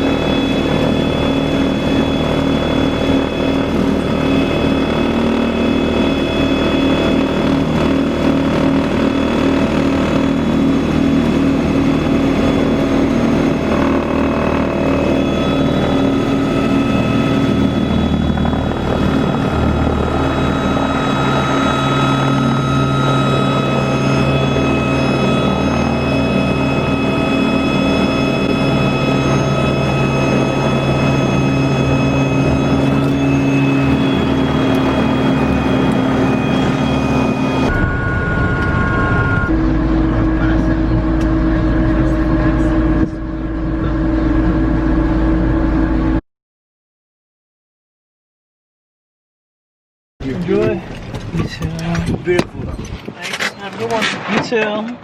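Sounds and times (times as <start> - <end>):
deeper hum: 0.0 - 46.2
helicopter engine and rotor: 0.0 - 46.2, 50.2 - 55.0.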